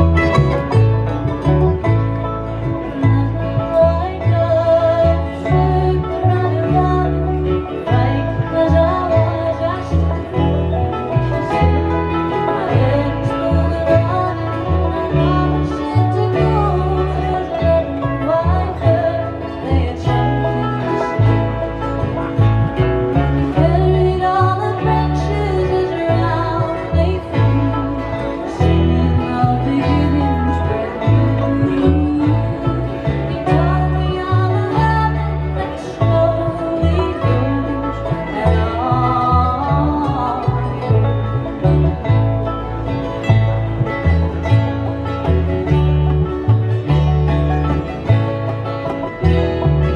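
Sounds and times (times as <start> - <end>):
acoustic string band playing: 0.0 - 49.9.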